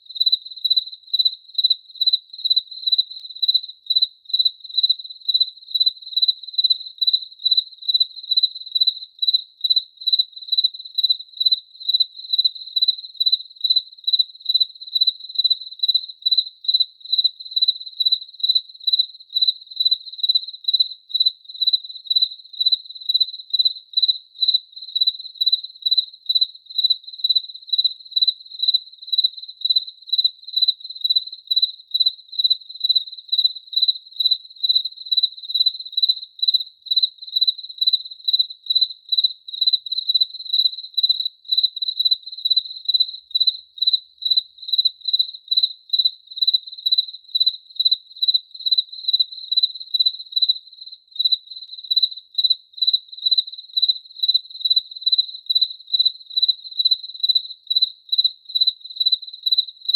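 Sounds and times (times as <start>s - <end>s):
cricket chirping: 0.0s - 59.9s.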